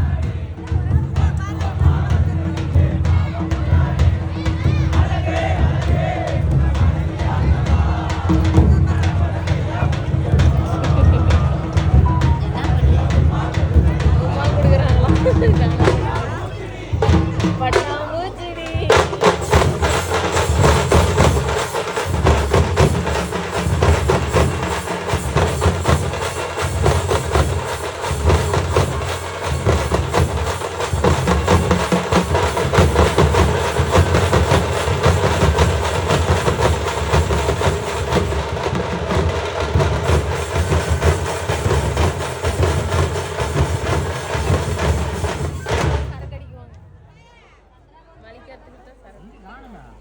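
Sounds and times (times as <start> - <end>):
music with fast drumming: 0.0 - 46.4.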